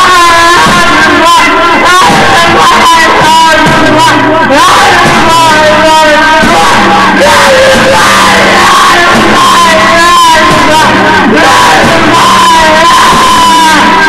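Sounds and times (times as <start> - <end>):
distorted noise music: 0.0 - 14.0.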